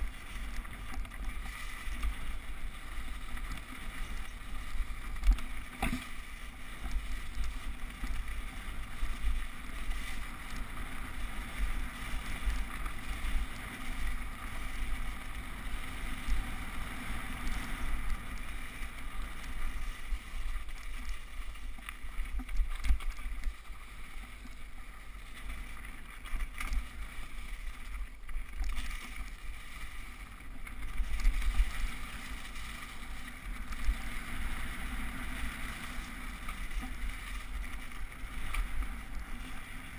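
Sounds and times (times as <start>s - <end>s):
bike tyres rumbling: 0.0s - 39.9s
wind on camera: 0.0s - 39.9s.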